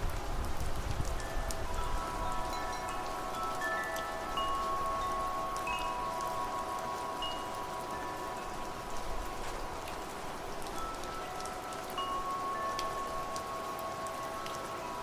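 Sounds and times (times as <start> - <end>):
rain patter: 0.0 - 15.0
wind chimes ringing: 1.1 - 15.0.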